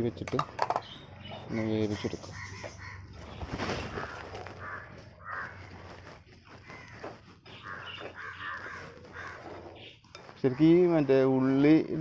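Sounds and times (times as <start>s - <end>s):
crows cawing: 1.5s - 11.5s.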